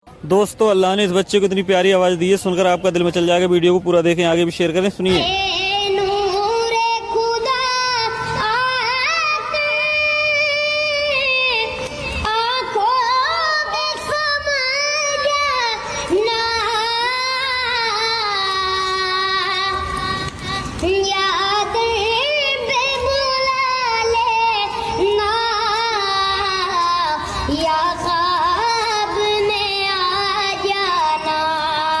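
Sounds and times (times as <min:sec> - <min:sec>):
child singing a devotional chant: 0:05.1 - 0:32.0.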